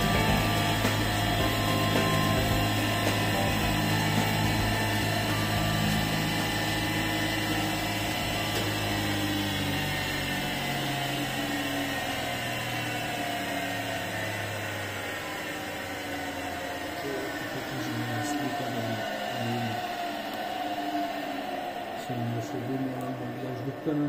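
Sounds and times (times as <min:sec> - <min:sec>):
grinding wheel motor humming: 0:00.0 - 0:24.0.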